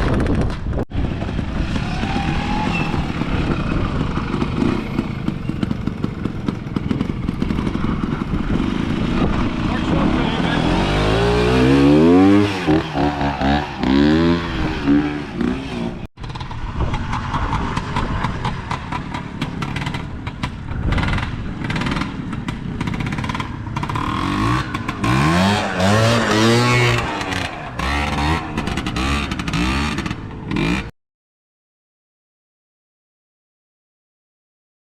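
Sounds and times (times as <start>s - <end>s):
motorcycle engine revving: 0.2s - 30.9s.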